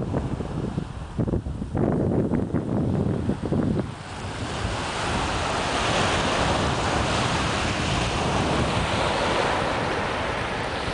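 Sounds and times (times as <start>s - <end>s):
waves breaking on a beach: 0.0s - 10.9s
wind buffeting microphone: 0.0s - 10.9s.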